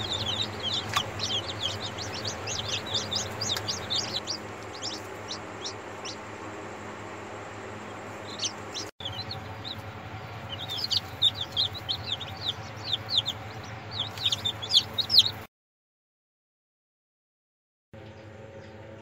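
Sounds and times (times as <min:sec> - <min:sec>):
chicks peeping: 0:00.0 - 0:15.5
low steady hum: 0:00.0 - 0:15.5.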